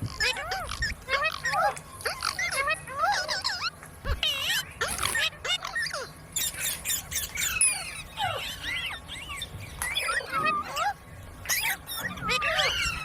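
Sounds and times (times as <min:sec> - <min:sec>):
parakeets chattering: 0:00.0 - 0:13.0.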